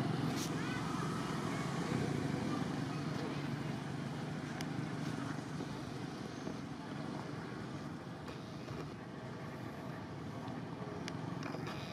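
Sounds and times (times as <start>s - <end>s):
motorbikes passing: 0.0s - 11.9s.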